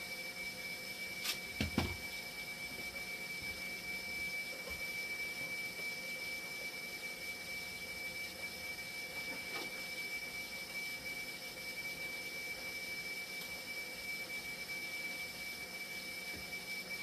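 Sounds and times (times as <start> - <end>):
machine humming with high whine: 0.0 - 17.0.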